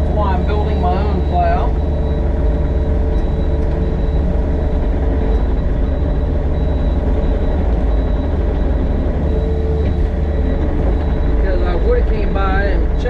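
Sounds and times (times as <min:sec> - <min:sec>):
diesel engine droning under load: 0:00.0 - 0:13.0.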